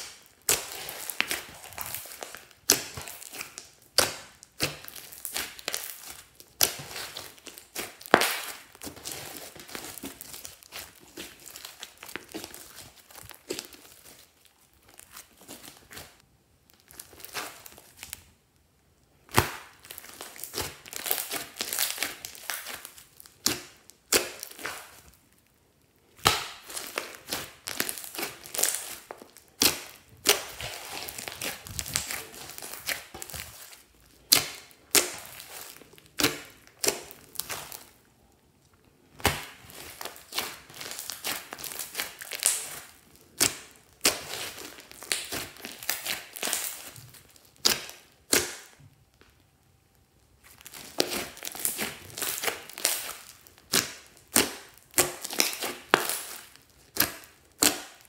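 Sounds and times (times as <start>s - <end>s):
slime squeezed crackling and popping: 0.0s - 18.4s, 19.1s - 58.0s.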